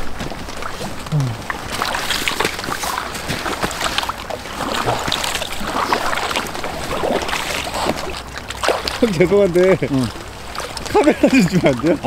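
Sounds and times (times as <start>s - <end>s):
water splashing around kayak: 0.0s - 12.0s.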